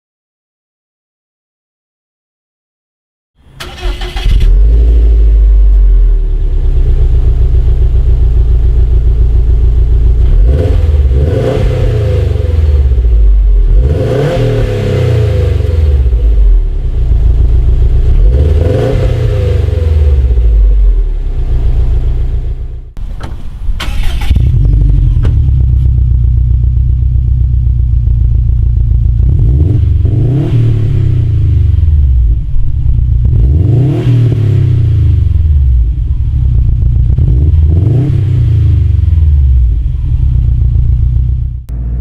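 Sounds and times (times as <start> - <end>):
car engine idling and revving: 3.4 - 42.0.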